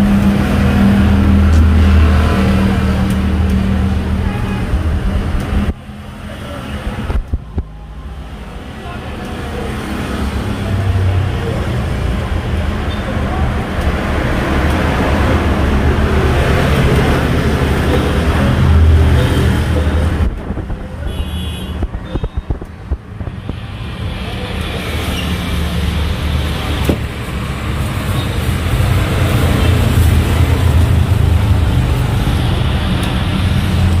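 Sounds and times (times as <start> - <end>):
passing vehicle engines rumbling: 0.0 - 34.0.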